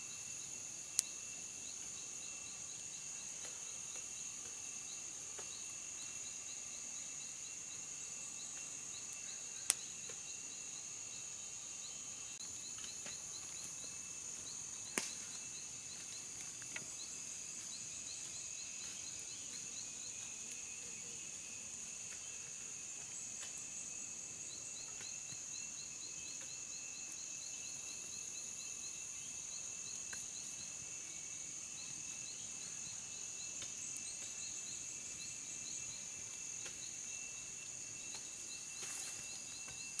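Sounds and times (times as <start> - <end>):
insects buzzing: 0.0 - 40.0.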